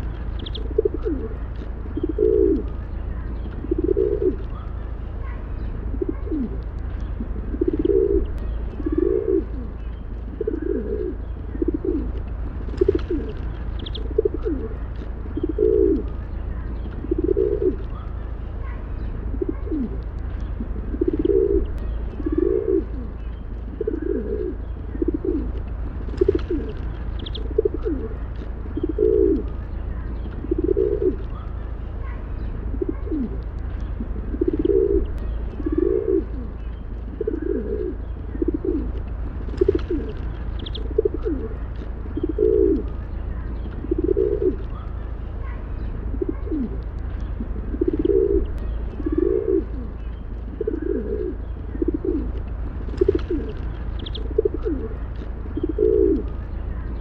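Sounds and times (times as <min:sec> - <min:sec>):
pigeons cooing: 0:00.0 - 0:57.0
steady low rumble: 0:00.0 - 0:57.0.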